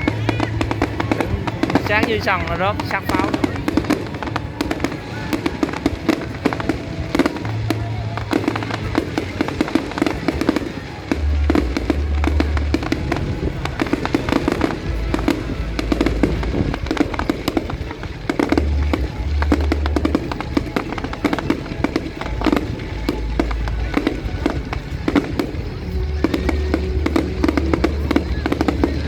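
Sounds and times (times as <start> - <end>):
fireworks bangs and crackles: 0.0 - 29.0
music with held bass notes: 3.4 - 29.0.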